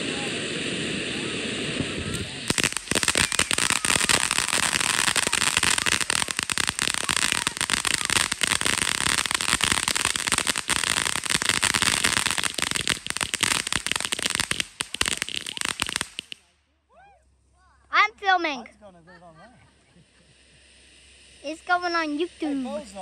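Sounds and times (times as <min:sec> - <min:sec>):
firework fountain hissing and crackling: 0:00.0 - 0:16.5, 0:18.1 - 0:23.0.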